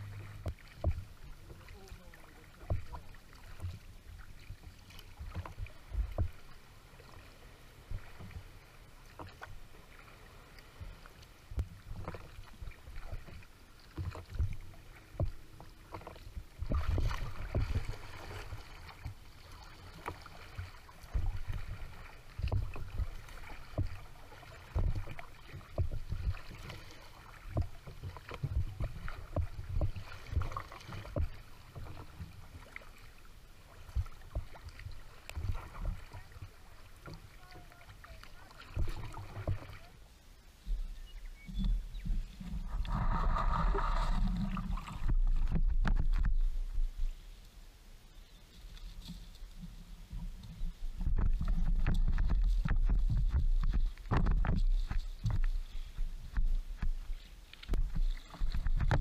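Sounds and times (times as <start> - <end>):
water slapping against kayak hull: 0.0 - 6.6, 7.8 - 40.0, 41.6 - 47.0, 49.0 - 59.0
wash of moving water: 0.0 - 59.0.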